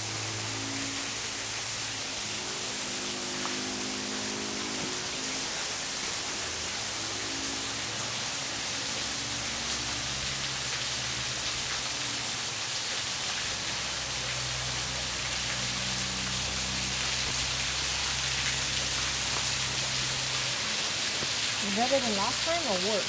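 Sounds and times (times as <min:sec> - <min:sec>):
waterfall splashing onto rock: 0:00.1 - 0:23.0.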